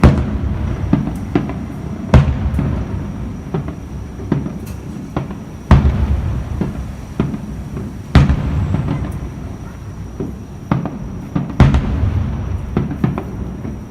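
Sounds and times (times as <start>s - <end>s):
fireworks booms: 0.0s - 13.9s
smaller fireworks bangs: 0.0s - 13.9s.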